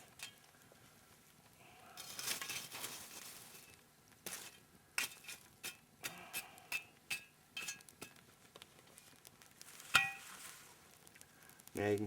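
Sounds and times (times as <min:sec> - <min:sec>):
campfire coals scraping: 0:00.0 - 0:12.0.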